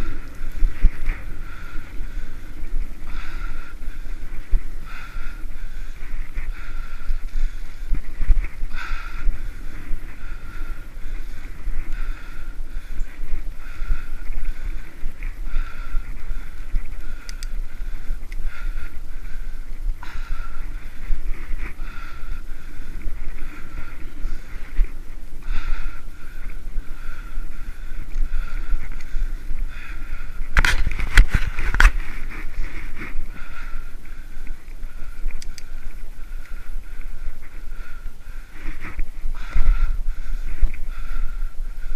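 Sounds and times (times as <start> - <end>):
bicycle tyre and wind noise: 0.0 - 41.9.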